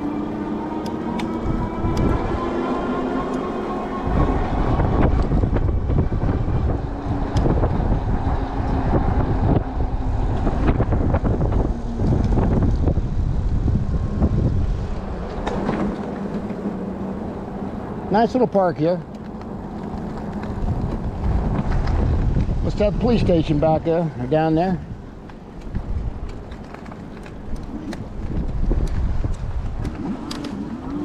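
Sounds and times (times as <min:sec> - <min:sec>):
electric hub motor whine: 0:00.0 - 0:31.0
wind buffeting microphone: 0:00.0 - 0:31.0.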